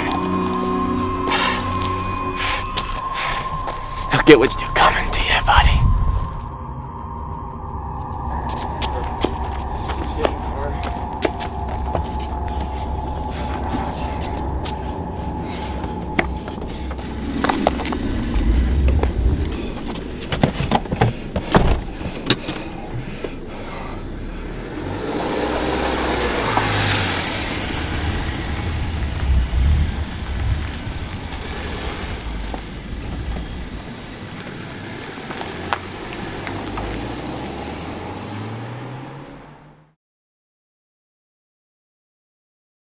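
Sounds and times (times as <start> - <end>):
car driving past: 0.0 - 20.8, 23.5 - 40.0.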